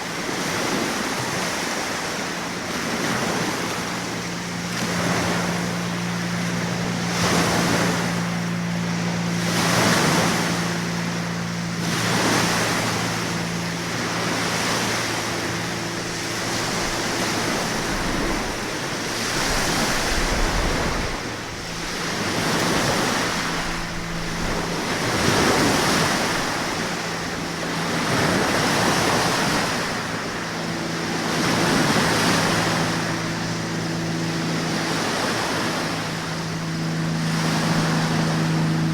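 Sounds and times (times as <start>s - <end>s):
steady low hum: 0.0s - 38.9s
surf washing in: 0.0s - 38.9s.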